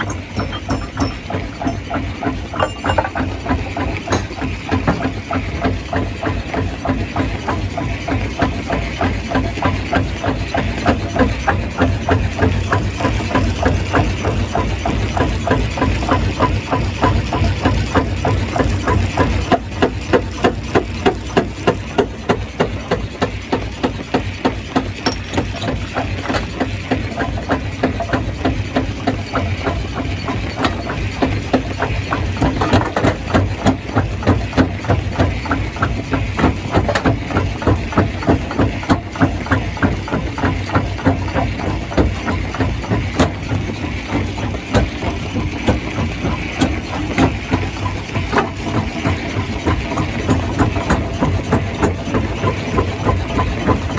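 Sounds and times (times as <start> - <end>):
engine drone: 0.0 - 53.9
rhythmic crusher knocking: 0.0 - 53.9.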